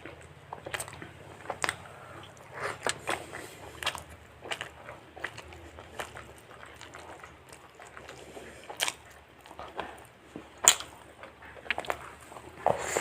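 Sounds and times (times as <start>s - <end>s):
person chewing fried chicken: 0.0s - 13.0s.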